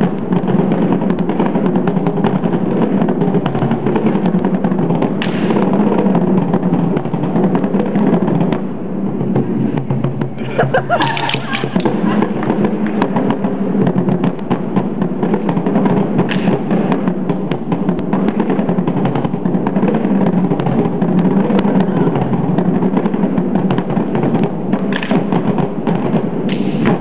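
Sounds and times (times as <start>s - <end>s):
marching snare drums: 0.0s - 27.0s.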